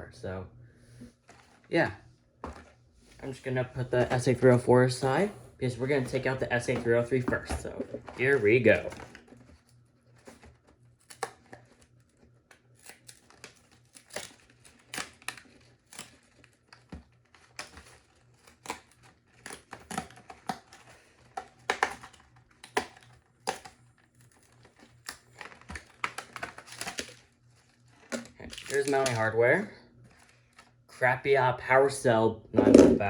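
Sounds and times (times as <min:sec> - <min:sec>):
packaging rustling and crinkling: 0:02.4 - 0:29.3, 0:30.0 - 0:30.8.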